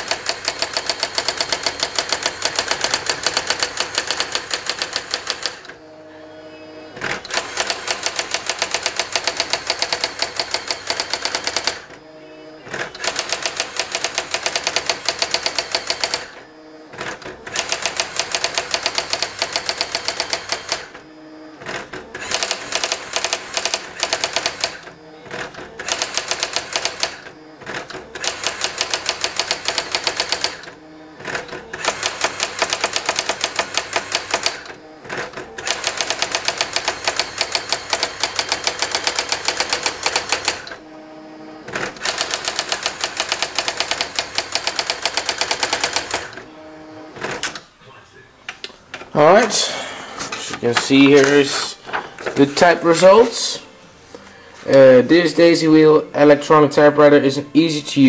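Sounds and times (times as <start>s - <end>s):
typewriter print strikes: 0.0s - 5.9s, 6.9s - 40.9s, 41.6s - 46.5s, 49.1s - 53.6s.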